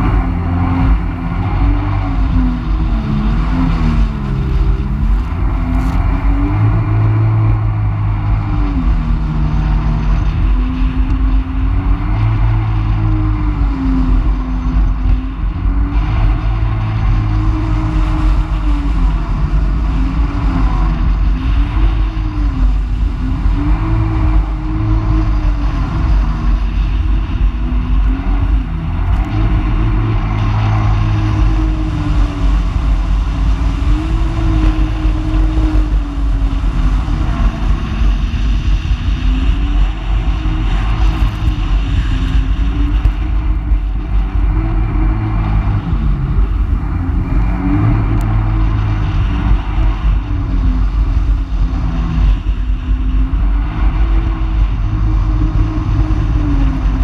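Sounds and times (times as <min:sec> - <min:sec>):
watercraft engine revving: 0:00.0 - 0:57.0.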